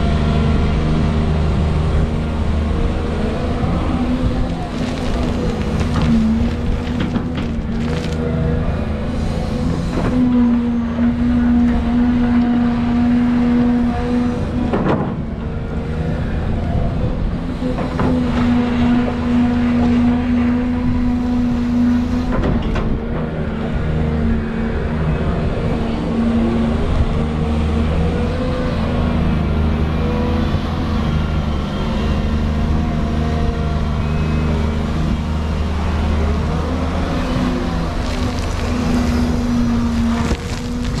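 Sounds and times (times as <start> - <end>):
excavator engine and hydraulics: 0.0 - 41.0.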